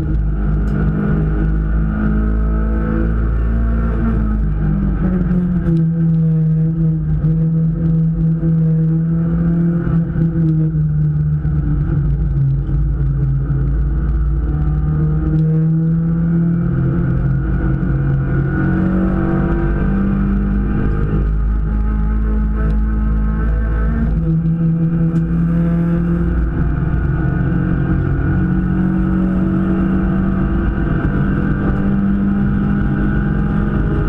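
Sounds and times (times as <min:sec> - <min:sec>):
race car engine droning: 0:00.0 - 0:34.0.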